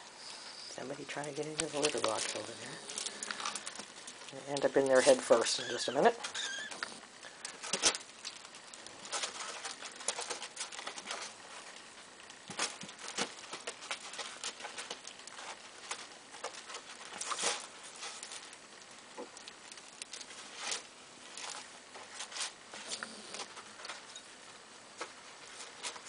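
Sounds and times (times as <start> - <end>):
paws scrabbling in cat litter: 0.9 - 24.2, 24.9 - 26.0.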